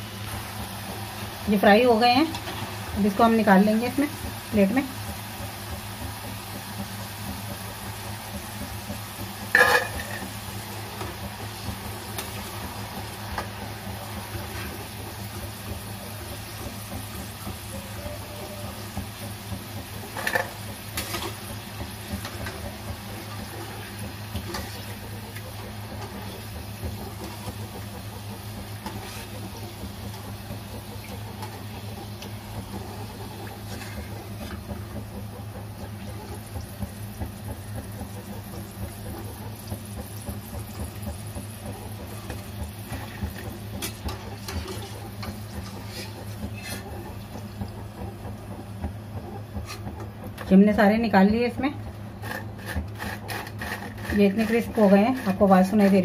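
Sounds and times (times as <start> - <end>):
fries sizzling in hot oil: 0.0 - 56.0.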